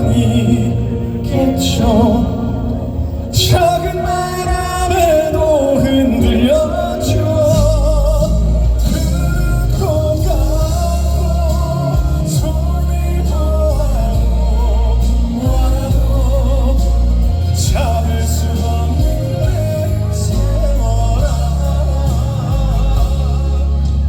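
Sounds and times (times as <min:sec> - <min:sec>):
band with heavy bass: 0:00.0 - 0:24.0
man singing with vibrato: 0:00.0 - 0:24.0.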